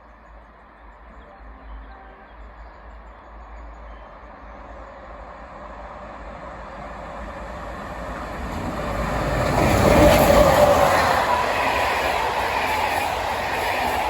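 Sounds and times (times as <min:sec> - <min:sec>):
train approaching: 0:00.0 - 0:14.0.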